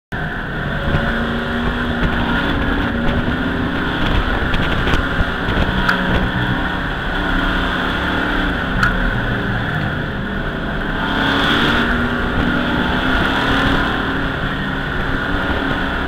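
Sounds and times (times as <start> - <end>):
truck engine running: 0.1 - 16.0.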